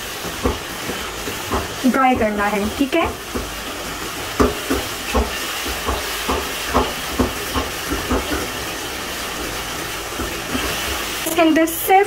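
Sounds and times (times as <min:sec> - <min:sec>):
gravy sizzling in a pan: 0:00.0 - 0:12.0.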